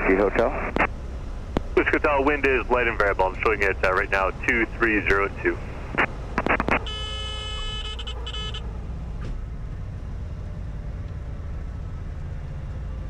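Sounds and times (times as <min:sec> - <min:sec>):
plane engine drone: 0:00.0 - 0:13.0.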